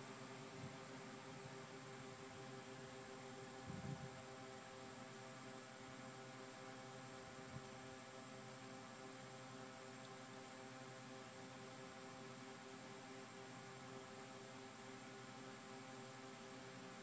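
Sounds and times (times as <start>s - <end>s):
faint electrical hum with whine: 0.0s - 17.0s.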